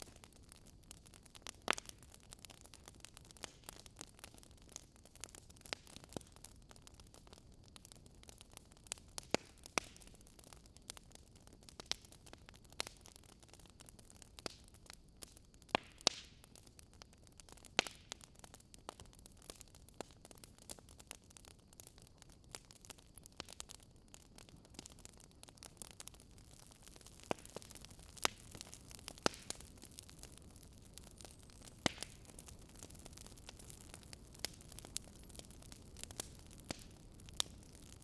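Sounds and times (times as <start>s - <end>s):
low steady hiss: 0.0s - 38.0s
wood fire crackling: 0.0s - 38.0s.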